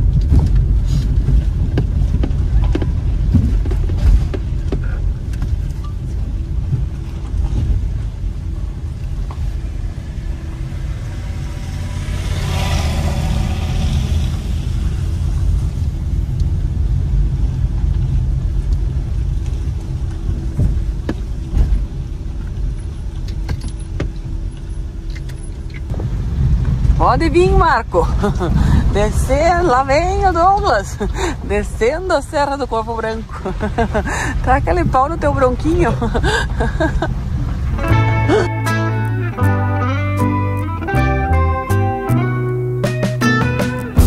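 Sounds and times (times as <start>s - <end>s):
engine and road rumble: 0.0s - 44.0s.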